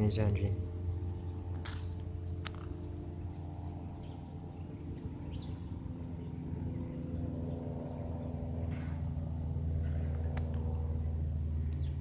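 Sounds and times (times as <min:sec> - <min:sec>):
propeller aircraft engine overhead: 0:00.0 - 0:12.0.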